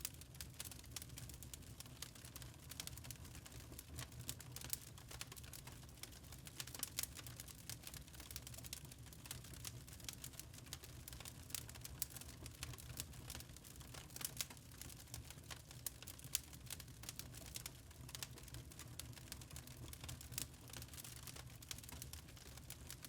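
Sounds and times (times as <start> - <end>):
fire snaps and pops: 0.0 - 23.0
low rumble of burning logs: 0.0 - 23.0.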